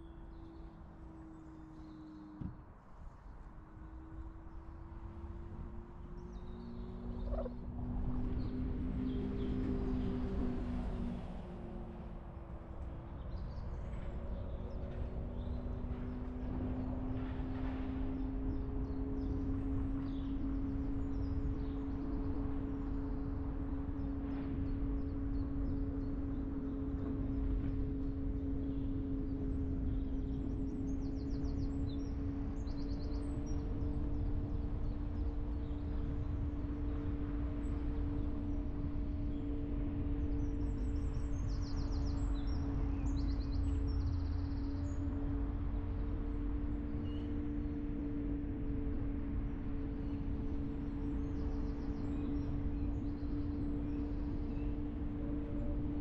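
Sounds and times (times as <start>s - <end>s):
car engine hum: 0.0s - 56.0s
faint birdsong trills: 0.0s - 56.0s
road and tyre rumble: 0.0s - 56.0s.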